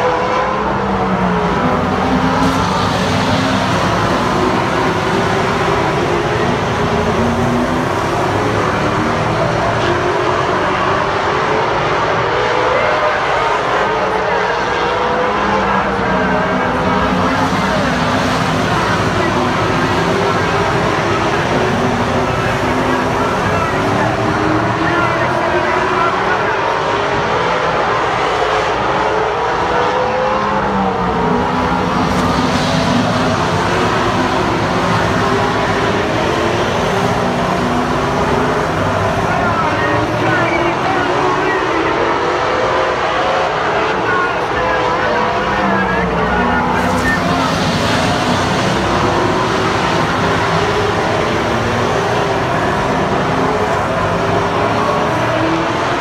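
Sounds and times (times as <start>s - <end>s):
race car engines running hard: 0.0s - 56.0s.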